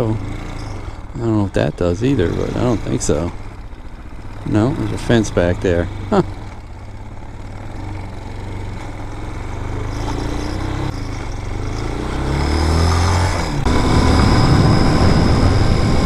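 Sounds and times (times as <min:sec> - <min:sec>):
dirt bike engine accelerating: 0:00.0 - 0:16.0.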